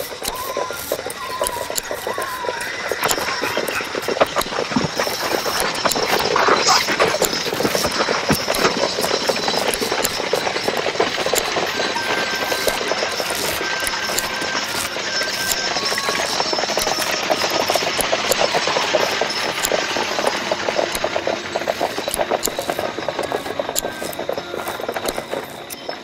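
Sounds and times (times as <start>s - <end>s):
fast mechanical rattle: 0.0s - 26.0s.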